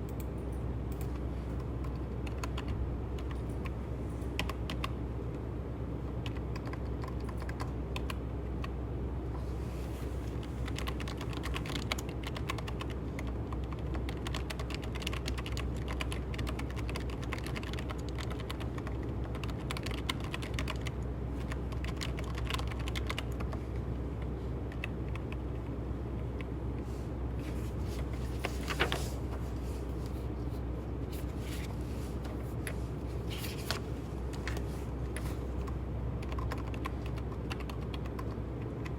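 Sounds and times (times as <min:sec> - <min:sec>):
low even hum: 0:00.0 - 0:38.9.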